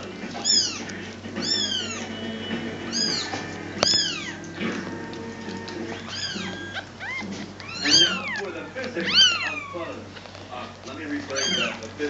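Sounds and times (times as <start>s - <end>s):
kittens mewing: 0.0s - 12.0s.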